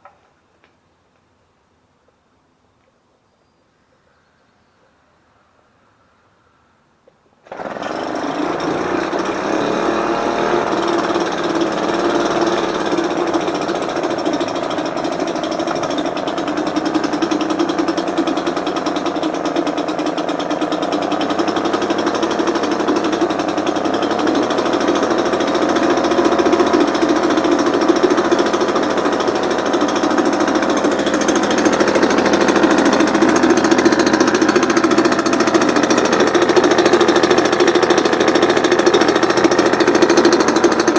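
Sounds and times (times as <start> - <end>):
outboard motor running rattling: 7.4 - 40.9.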